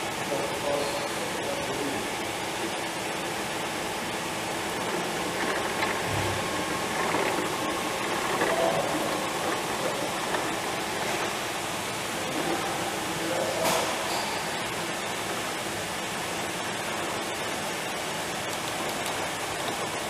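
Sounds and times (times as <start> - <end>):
cleaning machine whirring: 0.0 - 20.0.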